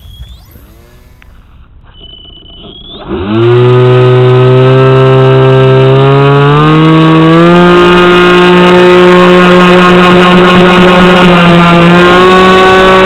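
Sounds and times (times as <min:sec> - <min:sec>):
electric motor and propeller whine: 0:00.0 - 0:01.8, 0:03.0 - 0:13.0.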